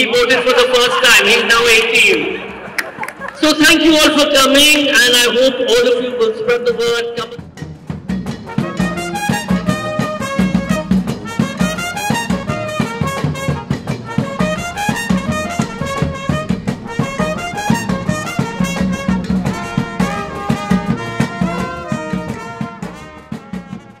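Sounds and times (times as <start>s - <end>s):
upbeat instrumental music: 0.1s - 24.0s.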